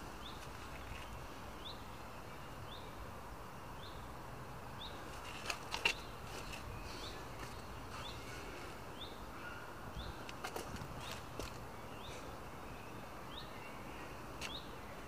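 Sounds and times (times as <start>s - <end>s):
bird chirping: 0.0s - 3.1s, 4.8s - 15.0s.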